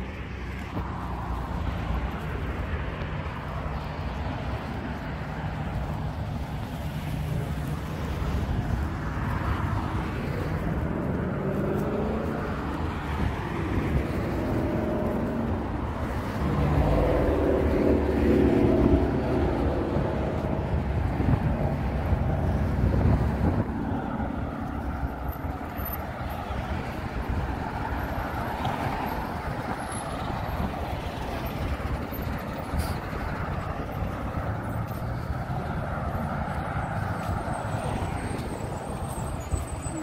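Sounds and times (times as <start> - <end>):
cars driving past: 0.0 - 40.0
loud vehicle passing: 0.0 - 40.0.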